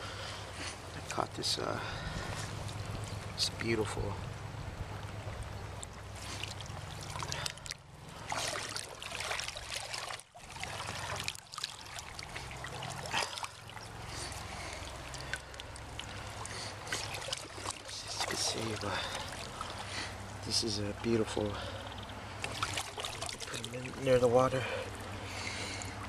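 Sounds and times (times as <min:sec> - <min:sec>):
river water trickling: 0:00.0 - 0:26.0.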